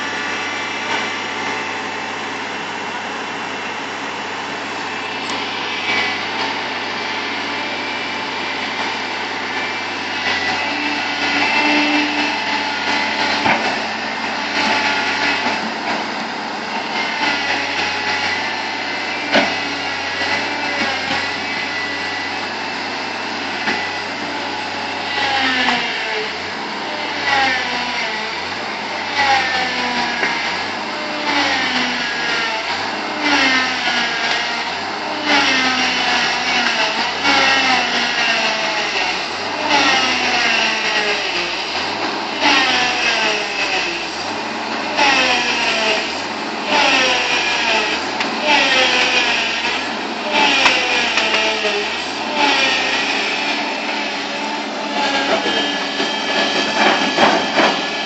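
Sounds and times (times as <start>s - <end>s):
bulldozer engine under load: 0.0s - 58.0s.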